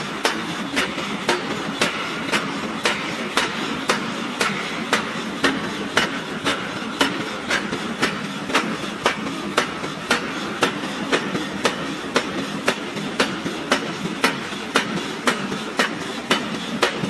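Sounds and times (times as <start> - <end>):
power hammer striking steel: 0.0 - 17.0
steady machine running noise: 0.0 - 17.0.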